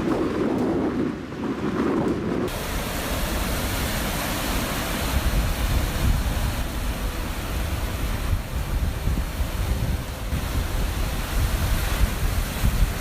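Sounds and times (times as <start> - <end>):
waves breaking: 0.0 - 13.0
wind buffeting microphone: 0.0 - 13.0
low rumble: 1.6 - 13.0.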